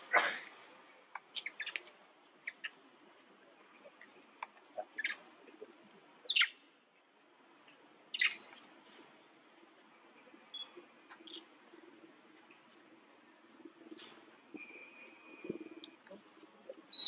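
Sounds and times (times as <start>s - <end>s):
faint chirps: 0.0s - 17.0s.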